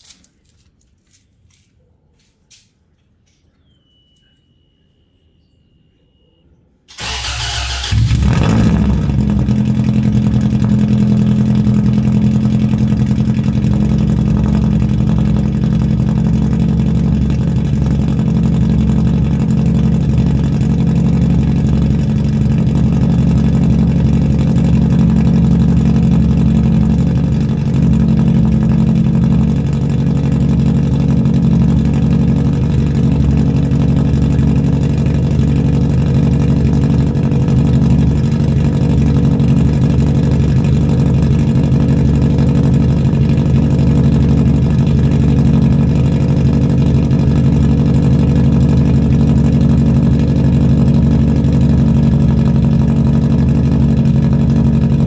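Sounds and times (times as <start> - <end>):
car engine idling exhaust drone: 3.3 - 55.0.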